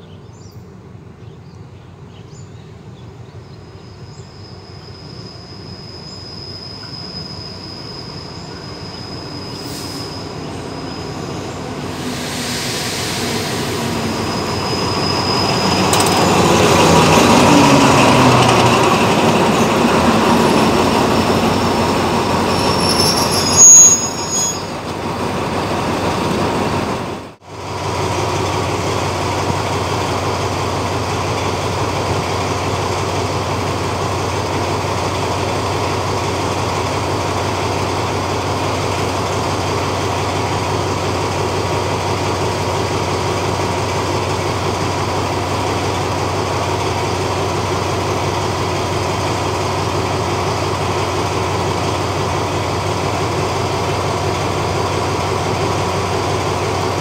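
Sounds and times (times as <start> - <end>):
diesel locomotive idling: 1.9 - 57.0.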